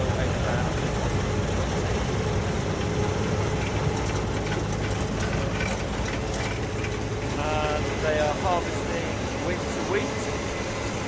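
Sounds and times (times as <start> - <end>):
combine harvester running: 0.0 - 11.0
faint constant whine: 0.0 - 11.0.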